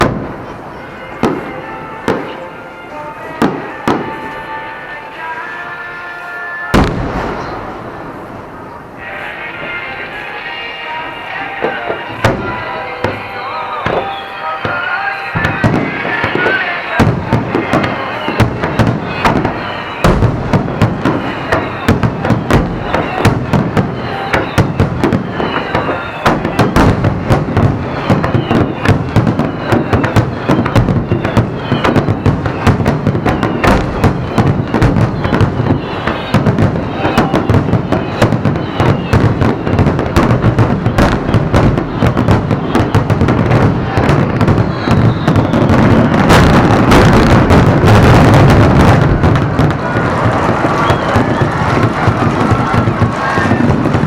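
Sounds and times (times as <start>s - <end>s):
fireworks bursts and crackling: 0.0s - 54.0s
fireworks whistles gliding down: 0.0s - 54.0s.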